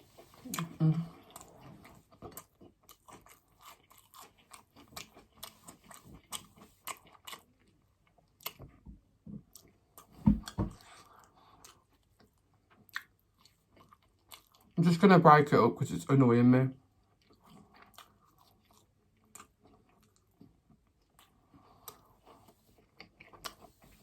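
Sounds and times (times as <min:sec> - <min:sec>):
person chewing crunchy food: 0:00.0 - 0:14.8, 0:16.8 - 0:24.0.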